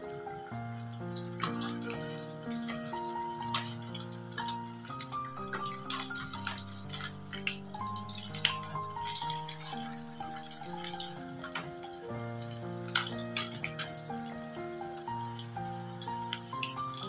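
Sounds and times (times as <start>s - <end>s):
background music: 0.0s - 17.0s
food deep-frying in oil: 0.0s - 17.0s.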